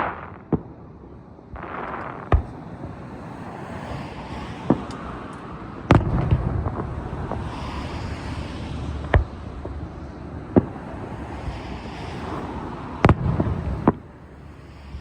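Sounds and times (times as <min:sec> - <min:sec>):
fireworks shells bursting with bangs: 0:00.0 - 0:03.3, 0:04.6 - 0:12.4, 0:13.0 - 0:14.1
rumble and crackle of fireworks: 0:00.0 - 0:15.0.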